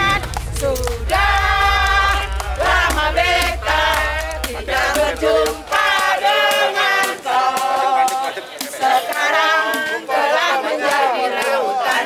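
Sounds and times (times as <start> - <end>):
group singing in unison: 0.0 - 12.0.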